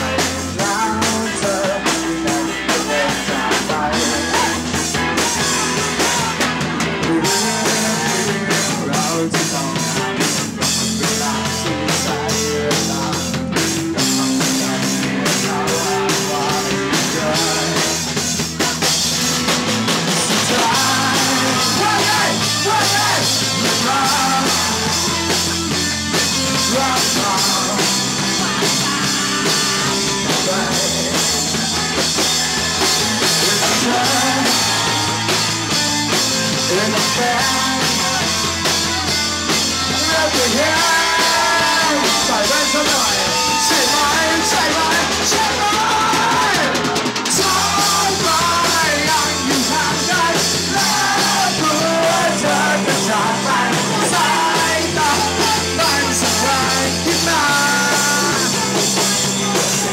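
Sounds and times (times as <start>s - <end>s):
person singing: 0.0s - 19.4s, 20.0s - 59.9s
drum kit beat: 0.0s - 59.9s
electric guitar: 0.0s - 59.9s.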